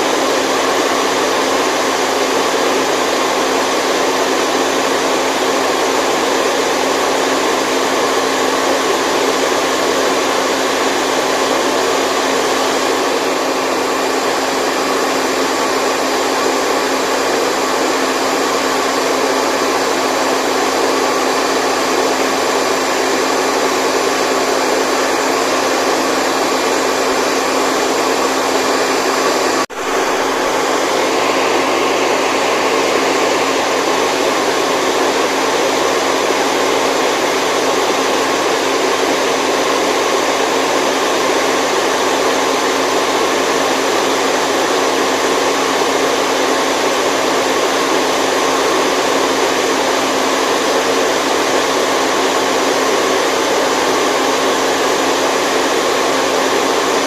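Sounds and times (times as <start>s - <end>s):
loud white noise: 0.0s - 57.0s.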